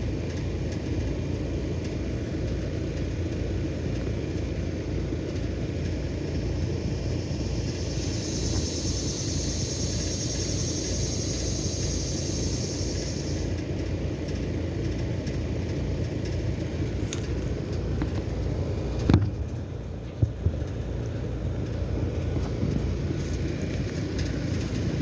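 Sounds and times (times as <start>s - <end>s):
air conditioner running: 0.0s - 25.0s.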